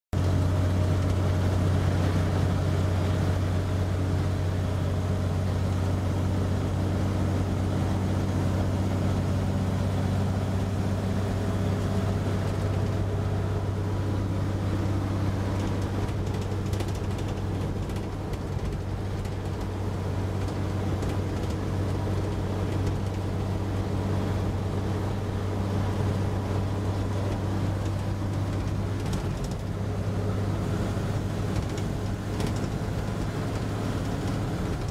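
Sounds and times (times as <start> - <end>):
road and wind noise: 0.2 - 34.9
truck engine drone: 0.2 - 34.9.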